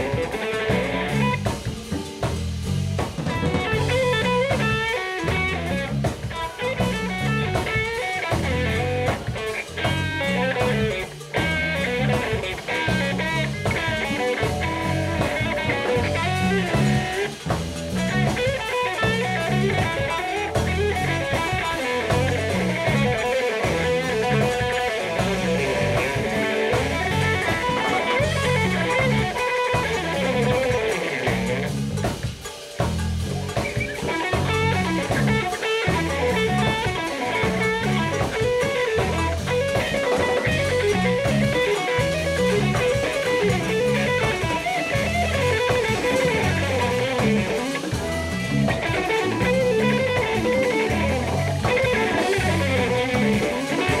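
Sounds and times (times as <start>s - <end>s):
drum kit: 0.0s - 54.0s
guitar: 0.0s - 54.0s
jazz-funk band playing: 0.0s - 54.0s.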